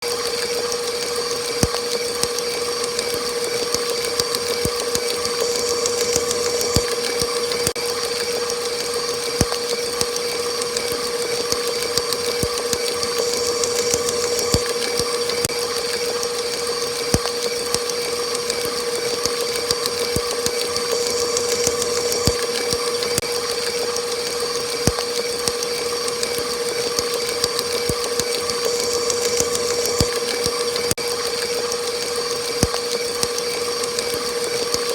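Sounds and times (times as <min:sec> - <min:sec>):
kitchen mixer motor whine: 0:00.0 - 0:34.9.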